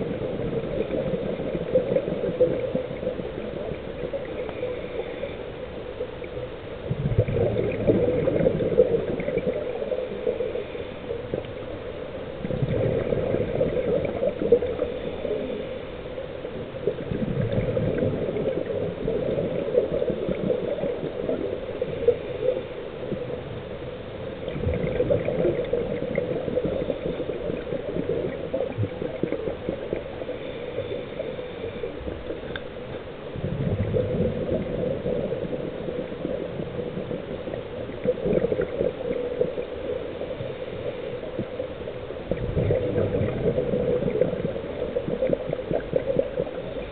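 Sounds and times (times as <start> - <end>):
underwater bubbles gurgling: 0.0 - 46.9.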